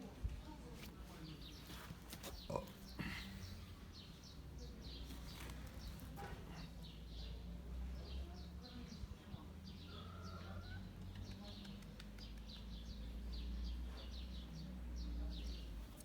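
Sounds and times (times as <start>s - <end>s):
small birds chirping: 0.4s - 16.0s.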